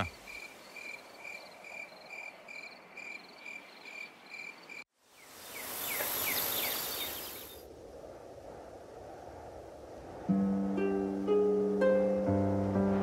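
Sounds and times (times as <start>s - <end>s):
crickets chirping: 0.0s - 10.5s.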